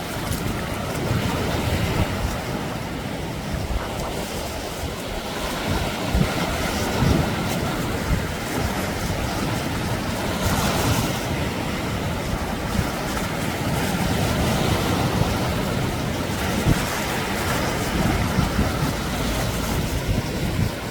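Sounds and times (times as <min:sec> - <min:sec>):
sea waves washing onto beach: 0:00.0 - 0:20.9
wind rumbling on microphone: 0:00.0 - 0:20.9.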